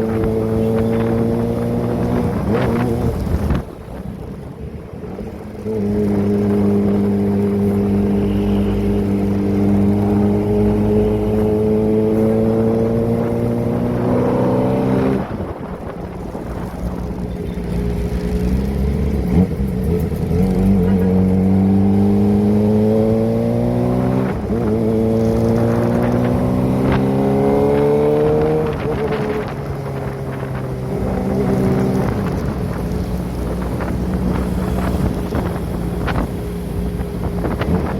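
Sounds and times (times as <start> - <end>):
motorcycle engine revving: 0.0 - 4.0, 5.2 - 37.9.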